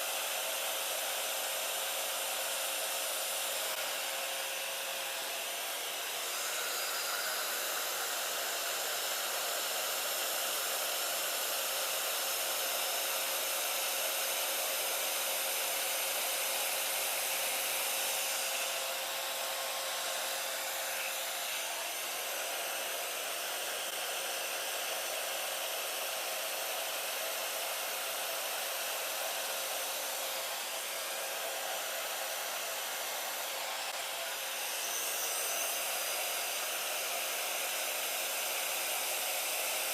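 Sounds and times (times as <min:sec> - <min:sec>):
blow dryer blowing: 0:00.0 - 0:39.9.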